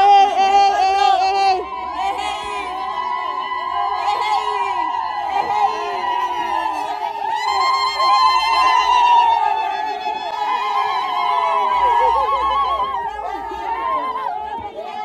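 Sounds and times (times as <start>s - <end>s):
crowd voices: 0.0s - 15.0s
women ululating: 0.0s - 15.0s.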